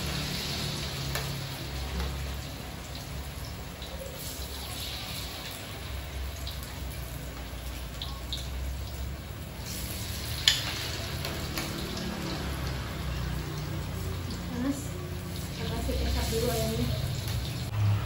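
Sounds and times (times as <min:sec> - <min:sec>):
food frying in hot oil: 0:00.0 - 0:18.0.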